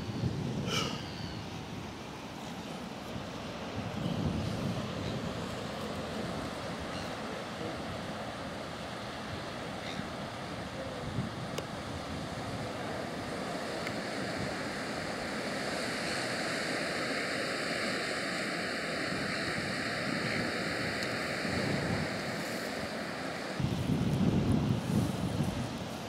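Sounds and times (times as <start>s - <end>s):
wind on microphone: 0.0s - 8.2s, 9.2s - 26.0s
ocean surf washing: 0.0s - 26.0s.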